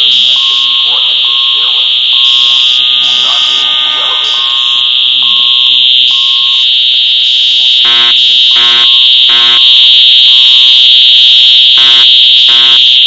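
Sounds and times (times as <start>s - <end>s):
fire alarm high-pitched tone: 0.0s - 13.0s.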